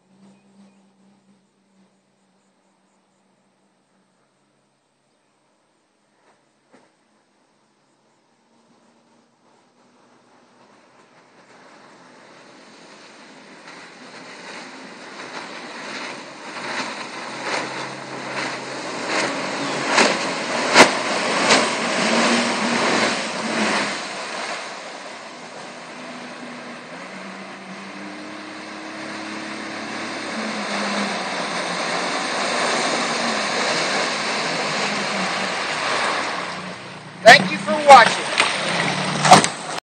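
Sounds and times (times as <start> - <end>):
outboard motor running: 6.0 - 39.8.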